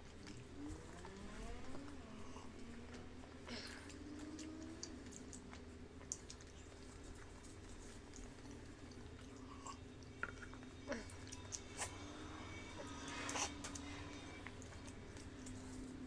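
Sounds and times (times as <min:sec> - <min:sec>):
chewing and lip-smacking: 0:00.0 - 0:16.0
steady low hum: 0:00.0 - 0:16.0.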